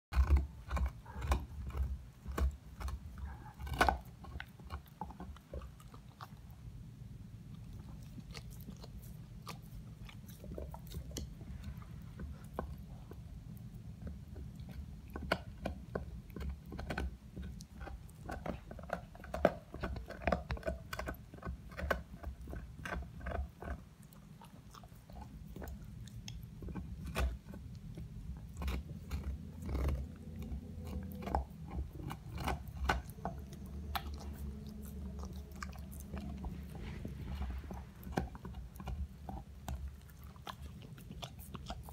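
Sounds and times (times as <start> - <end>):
dog chewing on a bone: 0.1 - 41.9.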